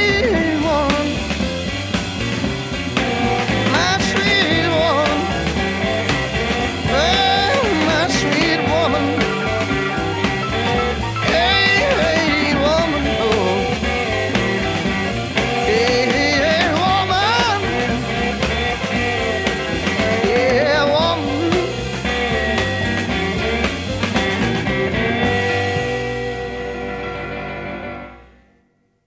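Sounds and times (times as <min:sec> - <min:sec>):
blues-rock band playing: 0:00.0 - 0:28.4.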